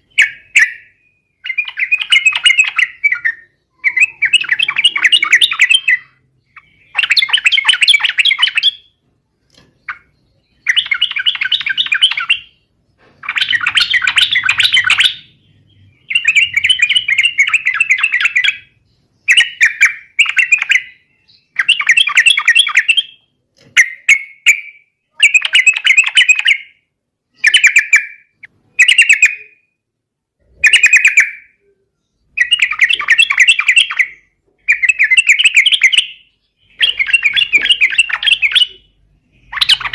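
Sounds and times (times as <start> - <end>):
bird chattering song: 0.0 - 29.8, 30.4 - 39.9.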